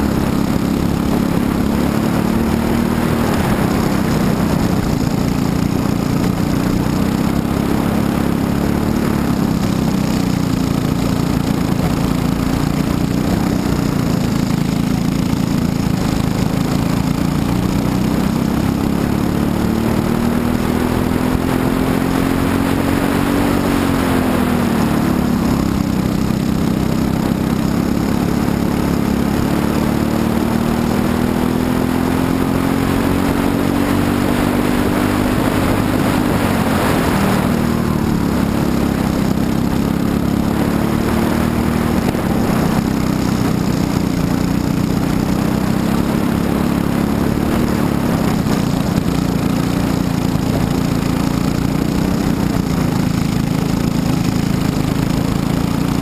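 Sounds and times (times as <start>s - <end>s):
kart engine at race speed: 0.0s - 56.0s.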